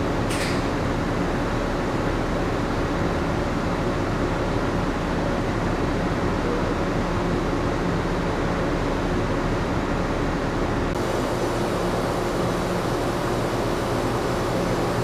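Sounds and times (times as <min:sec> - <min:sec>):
ship machinery and ventilation hum: 0:00.0 - 0:15.0.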